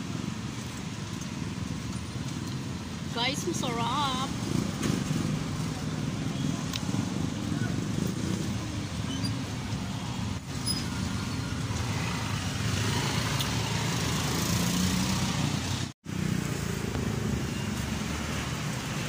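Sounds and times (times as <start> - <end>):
vehicle engines passing: 0.0 - 19.0.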